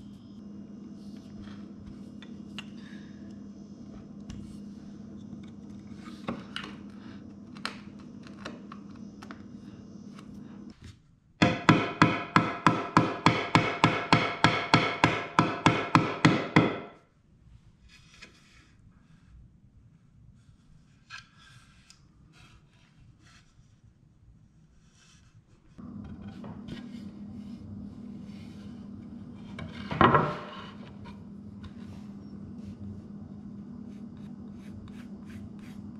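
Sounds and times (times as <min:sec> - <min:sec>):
steady low hum: 0:00.0 - 0:17.8, 0:18.8 - 0:35.9.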